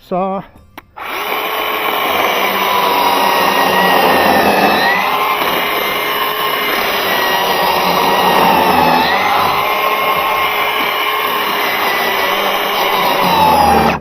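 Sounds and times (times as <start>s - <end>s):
electric chainsaw cutting wood: 1.0s - 14.0s.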